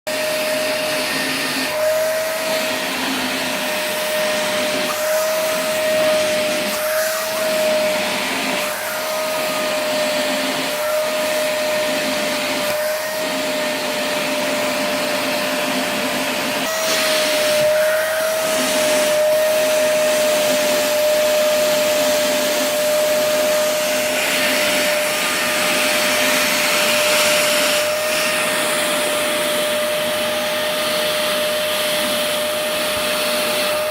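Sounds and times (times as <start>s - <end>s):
vacuum cleaner motor whine: 0.1s - 33.9s.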